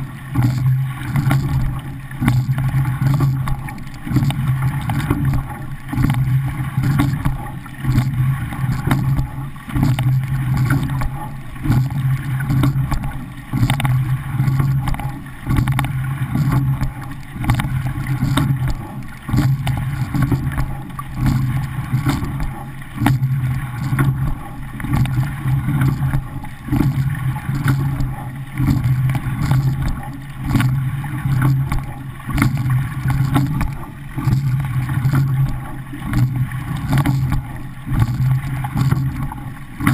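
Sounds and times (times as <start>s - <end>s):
water rushing along a hull: 0.0s - 39.9s.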